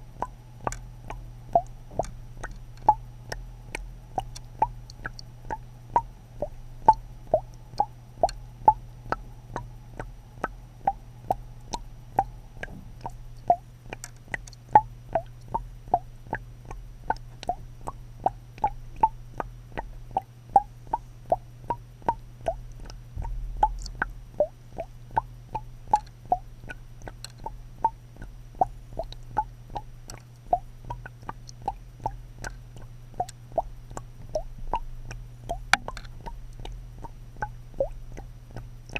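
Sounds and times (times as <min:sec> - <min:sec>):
steady low hum: 0:00.0 - 0:38.9
regular clicking: 0:00.2 - 0:10.1, 0:10.8 - 0:24.1, 0:24.8 - 0:38.9.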